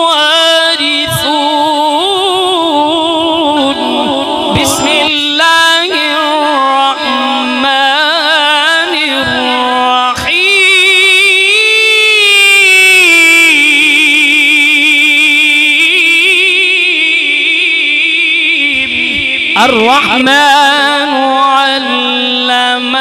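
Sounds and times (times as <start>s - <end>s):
man reciting melodically: 0.0s - 23.0s.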